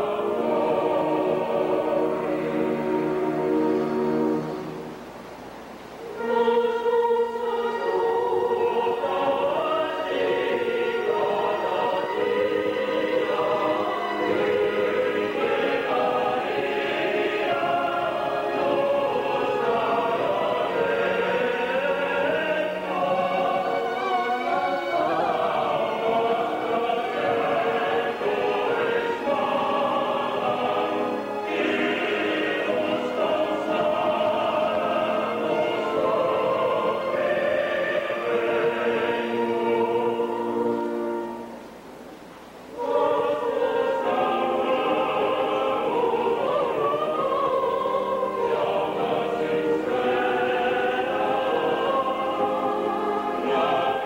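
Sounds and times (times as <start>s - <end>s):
choir and orchestra sacred music: 0.0s - 54.0s.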